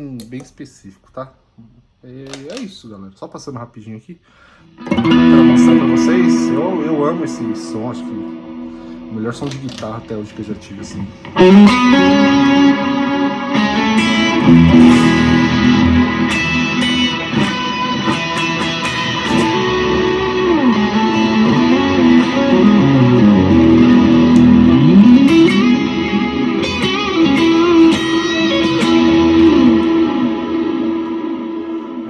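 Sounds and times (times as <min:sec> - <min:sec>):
electric guitar lead with sliding notes: 0:04.8 - 0:10.2, 0:11.0 - 0:32.0.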